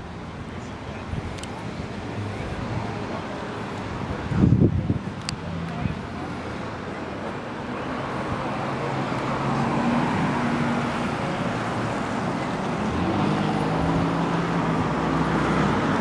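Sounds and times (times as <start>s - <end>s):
traffic rushing: 0.0s - 16.0s.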